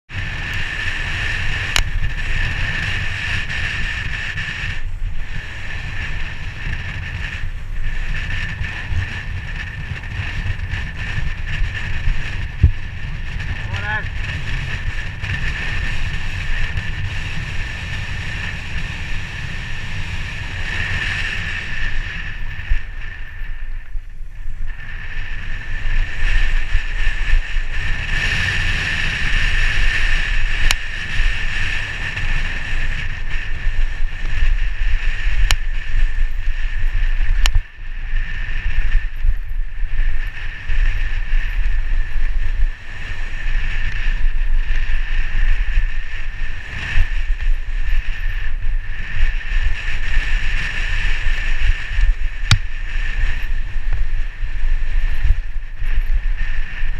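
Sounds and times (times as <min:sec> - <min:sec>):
bike tyre rumble: 0:00.0 - 0:56.9
wind buffeting camera: 0:00.1 - 0:56.9.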